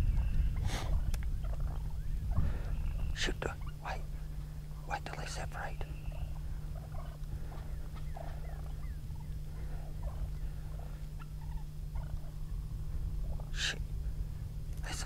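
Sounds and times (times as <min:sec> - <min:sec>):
steady low rumble: 0:00.0 - 0:15.0
turkeys calling softly: 0:00.0 - 0:15.0.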